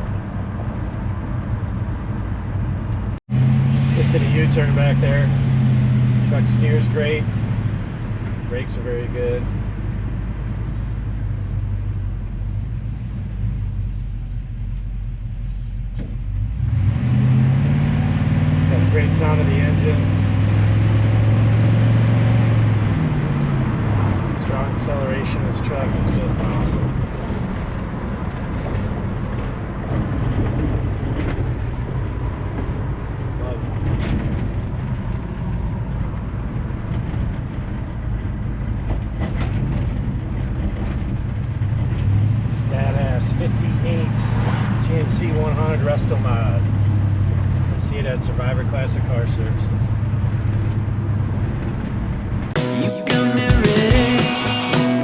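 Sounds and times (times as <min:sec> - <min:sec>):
pickup engine and road rumble: 0:00.0 - 0:55.0.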